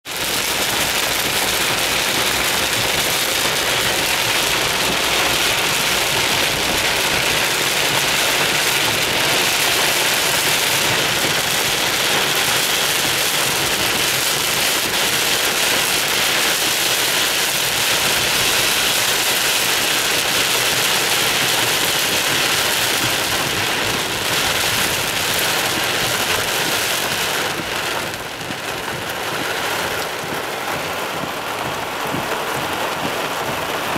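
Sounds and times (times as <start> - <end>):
heavy rain on car roof: 0.0 - 33.9.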